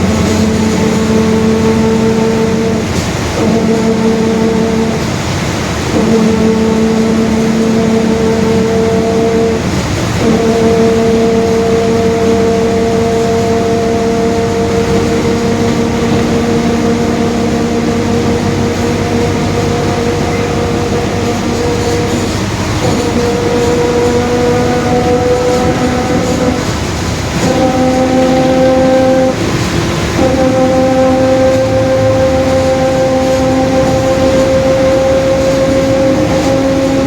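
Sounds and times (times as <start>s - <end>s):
bus differential whine: 0.0s - 37.0s
bus engine and road noise: 0.0s - 37.0s.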